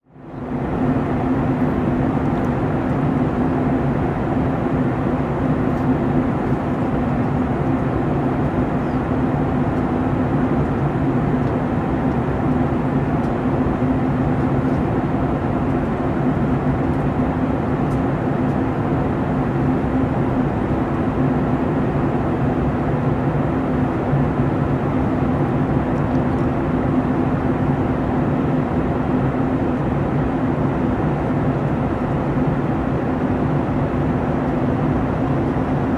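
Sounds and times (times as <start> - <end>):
jet engine drone: 0.2 - 35.9.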